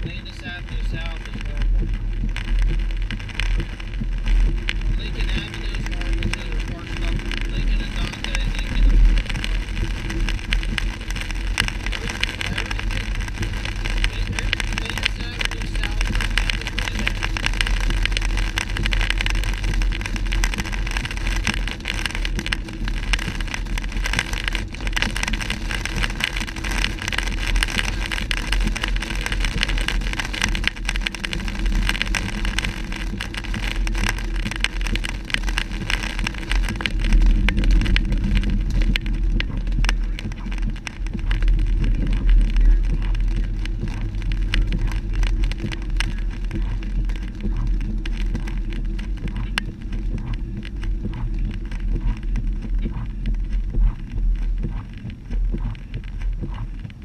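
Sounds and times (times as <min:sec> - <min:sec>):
tyres hissing on wet road: 0:00.0 - 0:51.7
low road rumble: 0:00.0 - 0:57.0.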